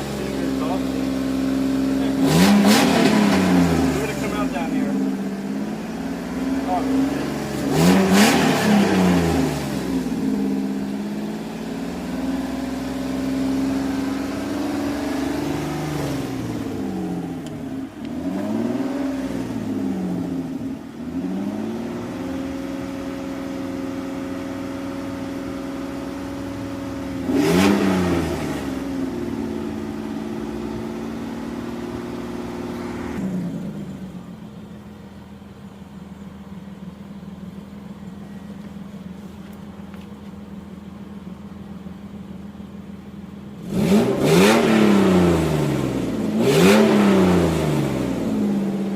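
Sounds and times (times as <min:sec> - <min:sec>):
car engine revving: 0:00.0 - 0:36.9, 0:42.8 - 0:48.9.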